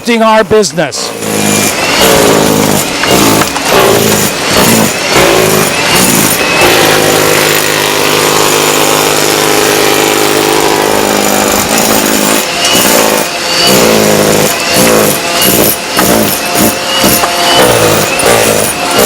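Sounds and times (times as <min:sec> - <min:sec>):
heavy machinery diesel engine droning: 0:00.0 - 0:19.0.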